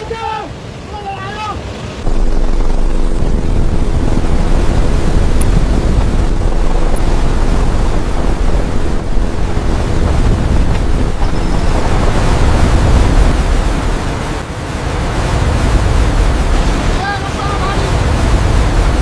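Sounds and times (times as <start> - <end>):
flooded river rushing: 0.0 - 19.0
wind buffeting microphone: 0.0 - 19.0.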